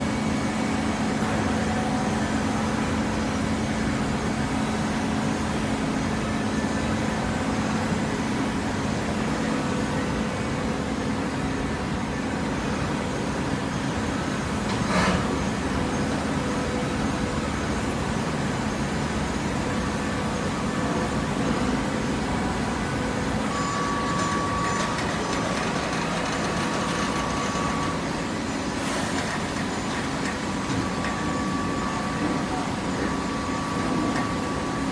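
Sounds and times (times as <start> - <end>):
high-pitched machine whine: 0.0 - 34.9.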